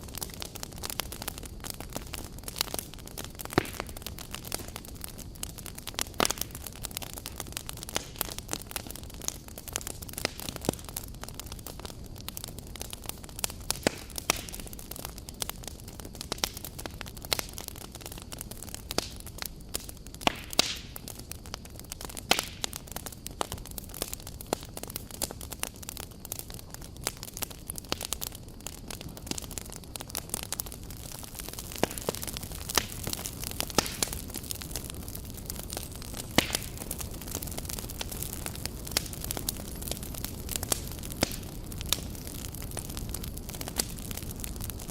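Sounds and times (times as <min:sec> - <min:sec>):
campfire crackling and popping: 0:00.0 - 0:44.9
low rush of flame: 0:00.0 - 0:44.9.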